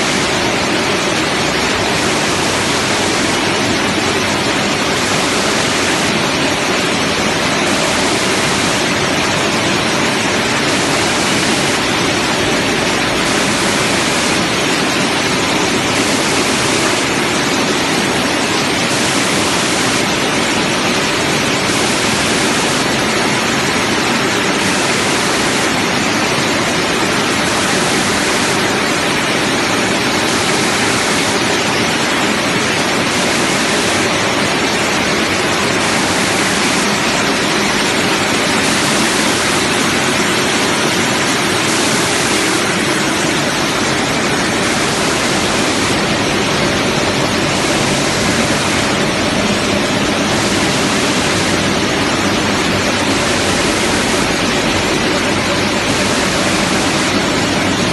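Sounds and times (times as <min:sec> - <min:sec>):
processing machinery rushing noise: 0:00.0 - 0:57.9.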